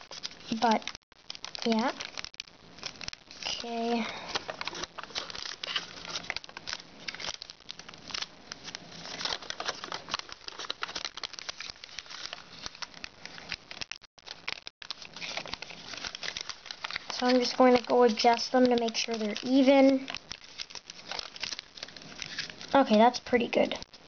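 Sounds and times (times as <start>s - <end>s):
foil paper crinkling: 0.0s - 24.0s.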